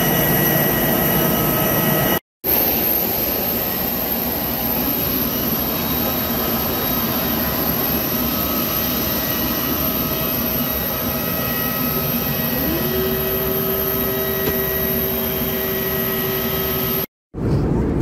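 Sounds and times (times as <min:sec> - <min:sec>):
high whining tones: 0:00.0 - 0:17.1
jet airliner rushing hum: 0:00.0 - 0:18.0.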